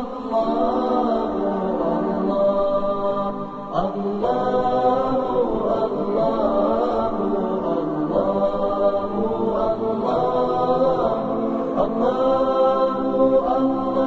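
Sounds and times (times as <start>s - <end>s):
voices singing wordless held notes: 0.0s - 14.0s.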